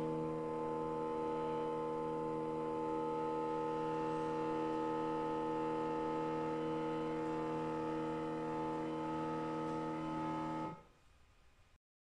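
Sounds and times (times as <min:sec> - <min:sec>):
stepper motors humming: 0:00.0 - 0:10.7.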